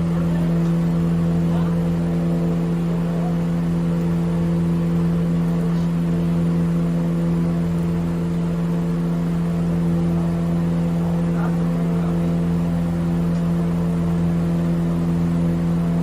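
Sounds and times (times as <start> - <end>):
motor running steadily: 0.0 - 16.0.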